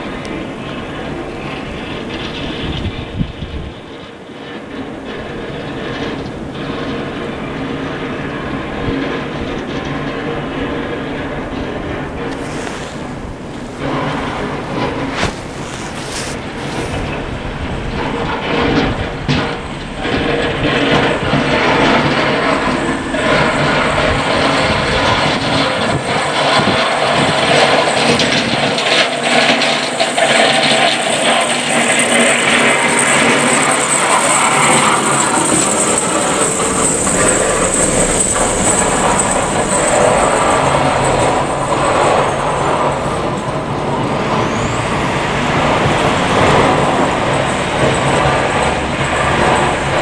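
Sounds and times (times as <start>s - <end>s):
road noise: 0.0s - 50.0s
truck engine running: 0.0s - 50.0s
faint high whine: 4.7s - 49.8s.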